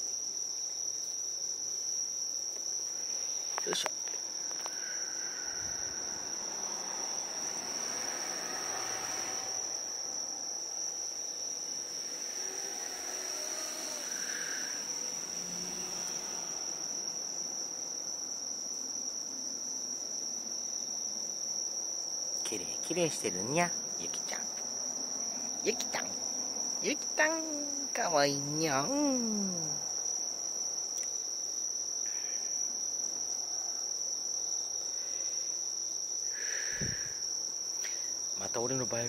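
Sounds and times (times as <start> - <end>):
insects chirring: 0.0 - 39.0.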